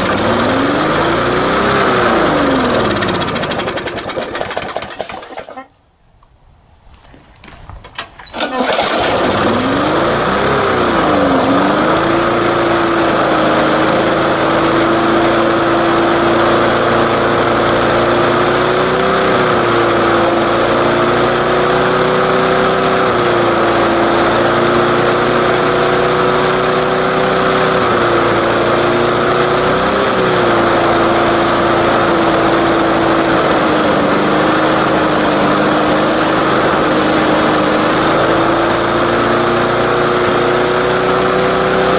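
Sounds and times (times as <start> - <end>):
lawn mower engine running: 0.0 - 5.7, 7.9 - 41.9.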